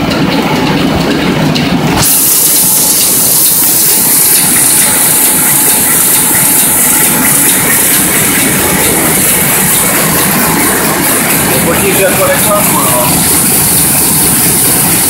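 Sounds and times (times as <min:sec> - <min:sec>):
printing press running: 0:00.0 - 0:15.0.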